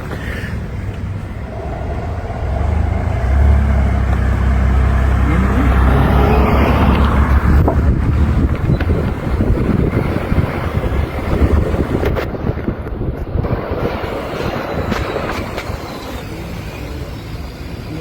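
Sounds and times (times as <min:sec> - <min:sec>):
motor vehicle engine rumbling: 0:00.0 - 0:18.0.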